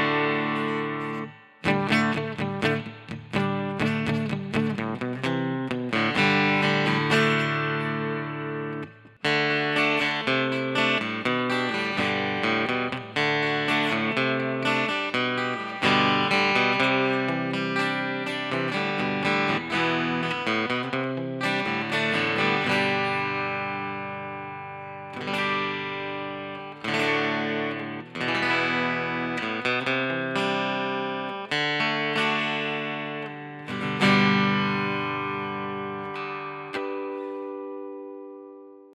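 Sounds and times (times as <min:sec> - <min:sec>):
acoustic guitar strumming chords: 0:00.0 - 0:38.8.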